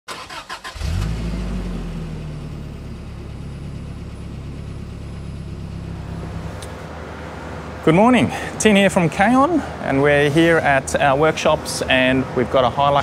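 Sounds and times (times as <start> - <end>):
low engine rumble: 0.8 - 13.0.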